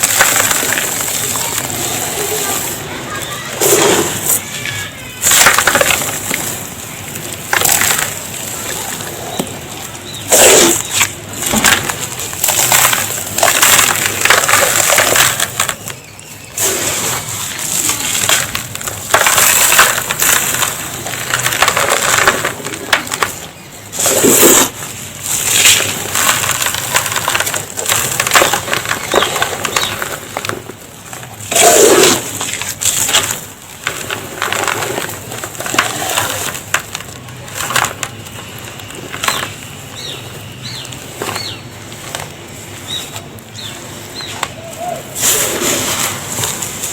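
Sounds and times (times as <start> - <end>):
dry dust pouring hiss: 0.0 - 46.9.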